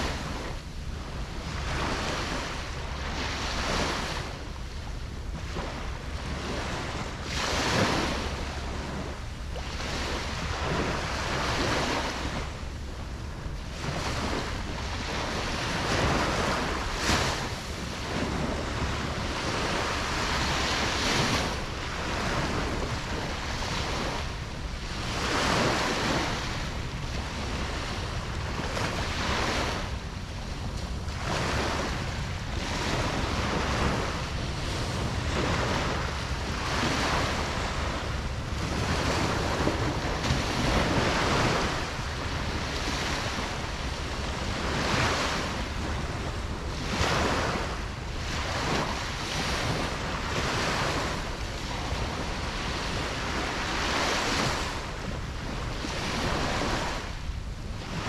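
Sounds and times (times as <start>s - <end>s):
ocean waves breaking on beach: 0.0s - 58.0s
wind rumble on microphone: 0.0s - 58.0s.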